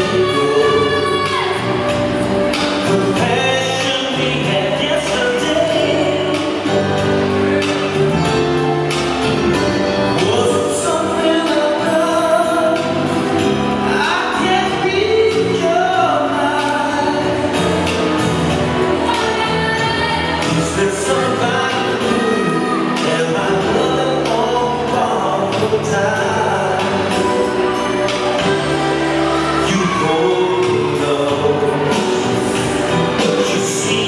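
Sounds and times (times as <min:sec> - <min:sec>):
latin dance music with singer: 0:00.0 - 0:34.0.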